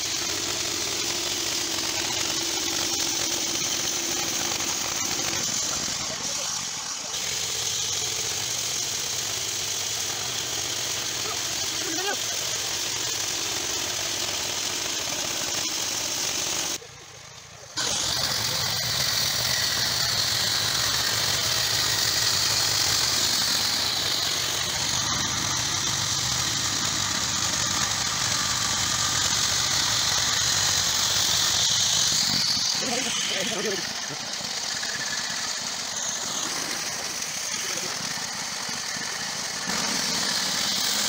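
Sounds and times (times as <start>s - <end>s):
saw blade hissing through wood: 0.0s - 16.8s, 17.8s - 41.0s
small engine droning: 0.0s - 41.0s.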